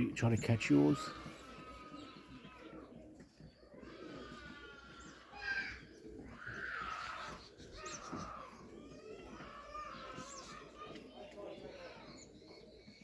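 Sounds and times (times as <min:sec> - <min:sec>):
high short bird calls: 0:00.0 - 0:13.0
pigeons cooing: 0:00.0 - 0:13.0.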